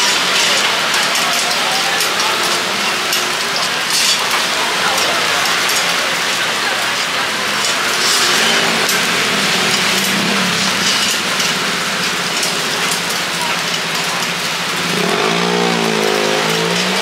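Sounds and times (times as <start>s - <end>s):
faint voices murmuring: 0.0s - 17.0s
food sizzling in oil: 0.1s - 17.0s.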